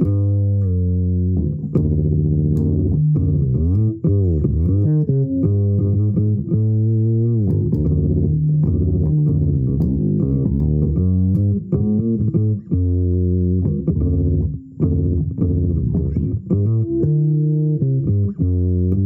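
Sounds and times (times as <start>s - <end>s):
electric bass guitar playing: 0.0s - 19.0s.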